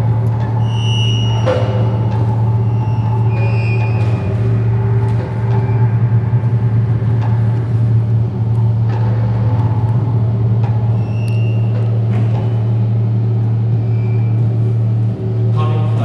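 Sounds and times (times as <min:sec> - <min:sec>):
low electronic drone: 0:00.0 - 0:16.0.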